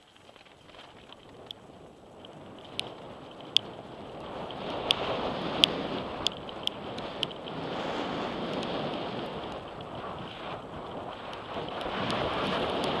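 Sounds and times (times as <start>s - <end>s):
bike clicks and rattles: 0.0s - 13.0s
tyres rolling on dirt: 0.0s - 13.0s
wind rushing over microphone: 0.6s - 13.0s.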